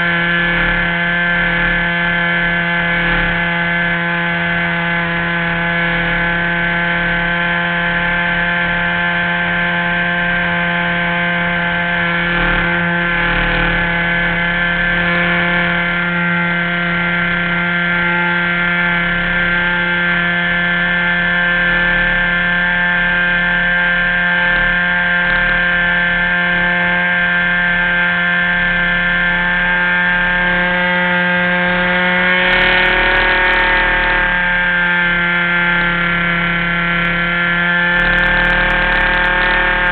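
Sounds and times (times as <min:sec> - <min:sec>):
model airplane engine running: 0:00.0 - 0:39.9.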